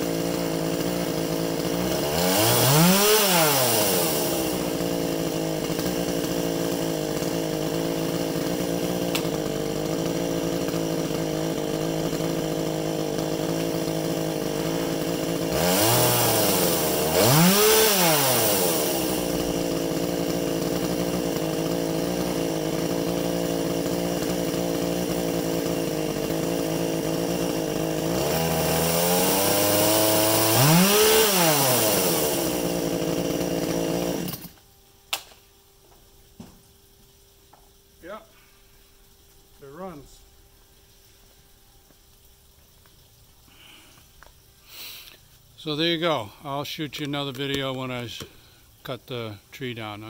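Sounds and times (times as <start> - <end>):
chainsaw engine idling and revving: 0.0 - 34.6, 43.5 - 50.0.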